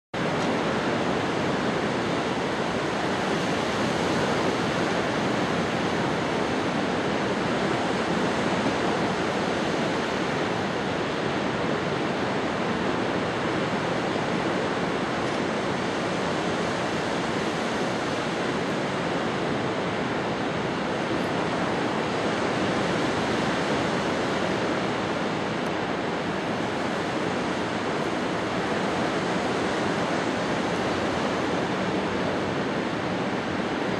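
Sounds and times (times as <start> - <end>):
ocean waves rushing: 0.2 - 33.9.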